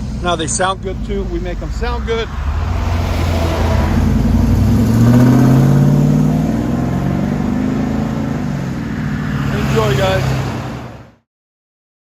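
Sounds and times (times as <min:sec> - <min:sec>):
vehicle exhaust accelerating: 0:00.0 - 0:11.1.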